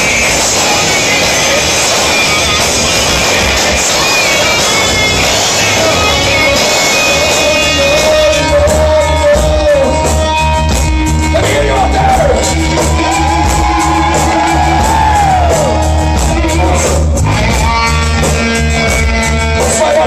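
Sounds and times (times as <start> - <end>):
person singing: 0.0 - 10.3, 11.1 - 18.4
bass guitar: 0.0 - 20.0
distorted electric guitar: 0.0 - 20.0
drums: 0.0 - 20.0.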